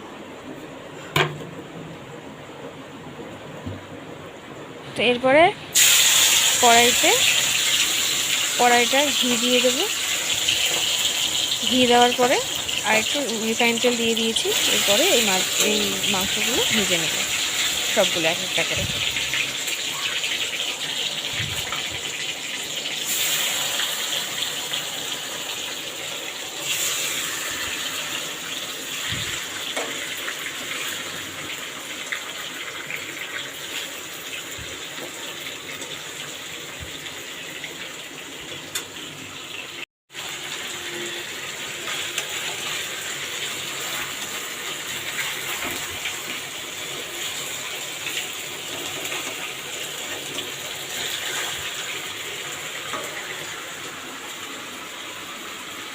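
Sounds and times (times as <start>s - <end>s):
chicken sizzling in oil: 5.7s - 55.9s.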